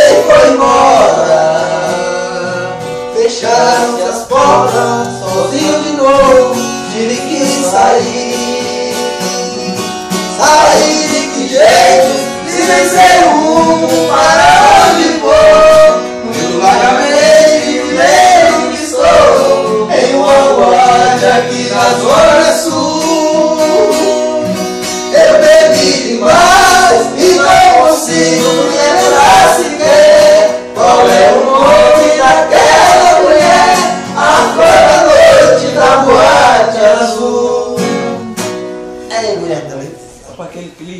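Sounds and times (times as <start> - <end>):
men singing: 0.0 - 38.4
acoustic guitar: 0.0 - 40.9.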